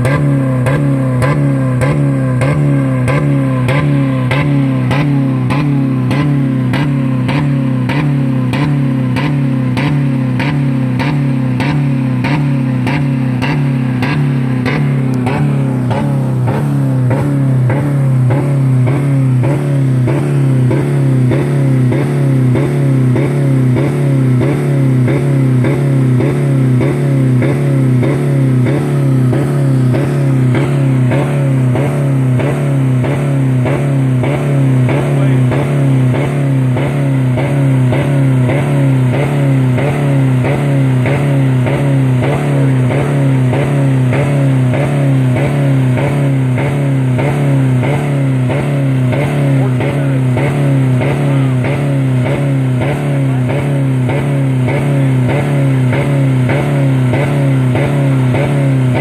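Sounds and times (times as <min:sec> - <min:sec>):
car engine on rev limiter: 0:00.0 - 0:59.0.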